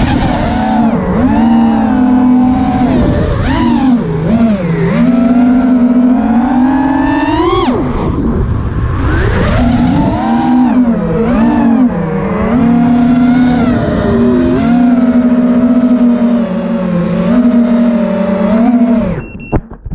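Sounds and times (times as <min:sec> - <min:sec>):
drone motors whining: 0:00.0 - 0:19.6.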